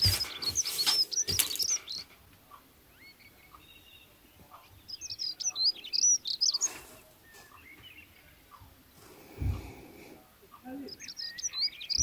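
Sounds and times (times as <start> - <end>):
faint bird chirps: 0.0 - 8.8, 9.4 - 12.0.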